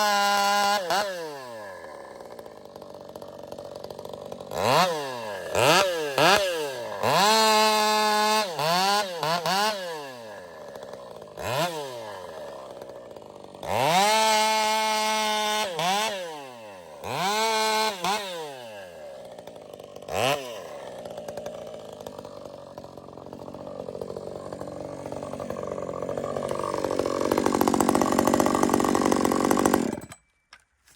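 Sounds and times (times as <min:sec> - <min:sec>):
chainsaw revving: 0:00.0 - 0:30.2.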